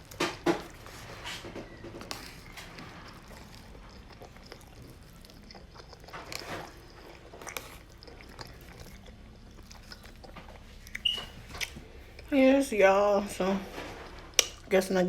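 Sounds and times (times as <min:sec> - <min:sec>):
person chewing food: 0:00.0 - 0:12.4, 0:13.8 - 0:14.7.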